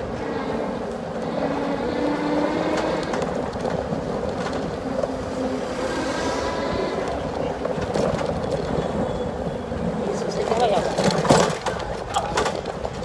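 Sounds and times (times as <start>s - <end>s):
wheels rolling on asphalt: 0.0s - 13.0s.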